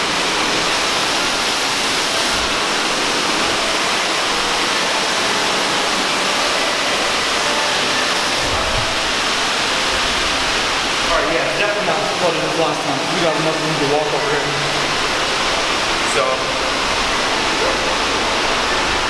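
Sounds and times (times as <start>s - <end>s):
water rushing through tunnel: 0.0s - 19.0s.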